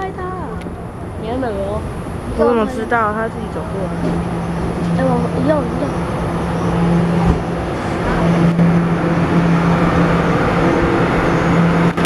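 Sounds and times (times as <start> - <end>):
train rumbling to a stop: 0.0 - 12.0.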